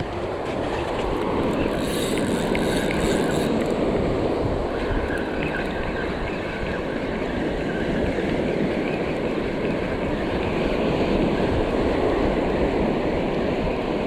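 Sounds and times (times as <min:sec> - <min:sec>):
ocean surf rushing: 0:00.0 - 0:14.0
wind on microphone: 0:00.0 - 0:14.0.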